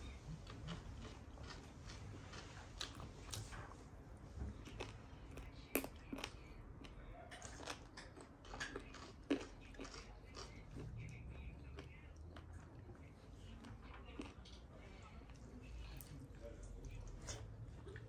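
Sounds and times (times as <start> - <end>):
person chewing: 0.0 - 3.8, 4.5 - 14.6, 16.8 - 18.0.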